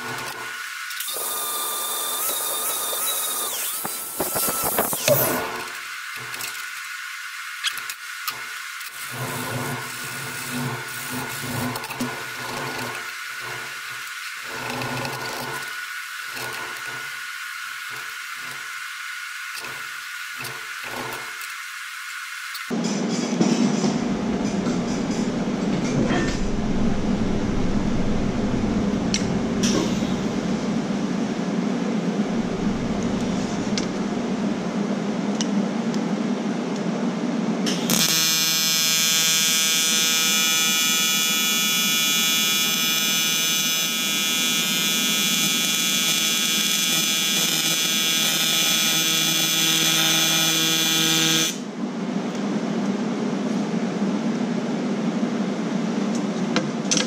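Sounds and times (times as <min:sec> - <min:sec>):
welding arc buzzing hum: 0:00.0 - 0:22.9, 0:23.8 - 0:54.4.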